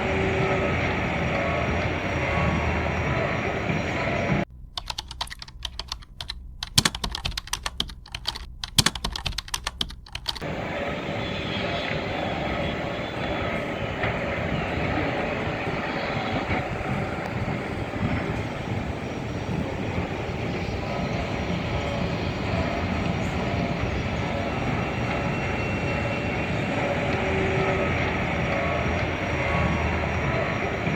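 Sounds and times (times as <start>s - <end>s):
steady outdoor rumble: 0.0s - 30.9s.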